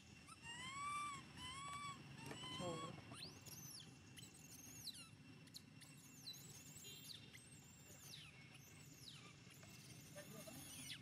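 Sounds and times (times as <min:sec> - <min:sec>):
baby monkey squealing: 0:00.2 - 0:11.0.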